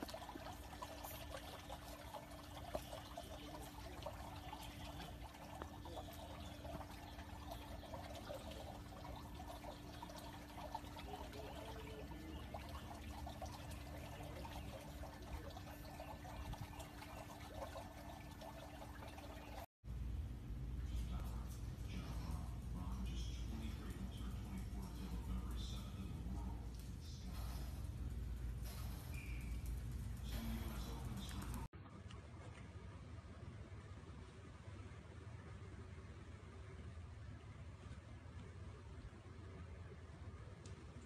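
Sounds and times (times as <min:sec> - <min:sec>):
pool water trickling and lapping: 0:00.0 - 0:41.0.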